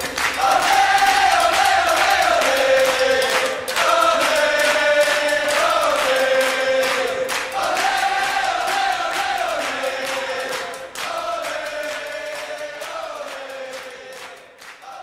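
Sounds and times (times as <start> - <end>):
group chanting and singing over music: 0.4 - 15.0.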